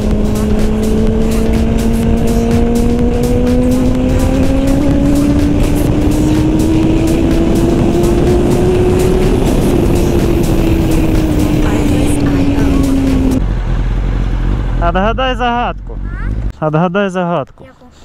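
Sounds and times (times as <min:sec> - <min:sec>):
wind rushing over microphone: 0:00.0 - 0:15.8
motorcycle engine climbing: 0:00.0 - 0:16.6.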